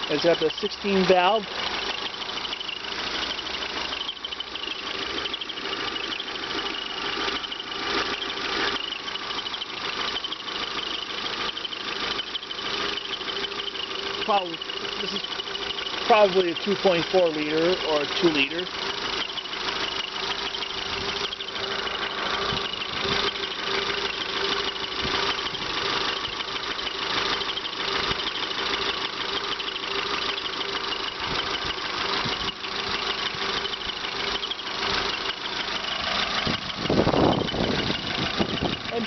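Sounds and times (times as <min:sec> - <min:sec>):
car engine idling with ticking: 0:00.0 - 0:39.0.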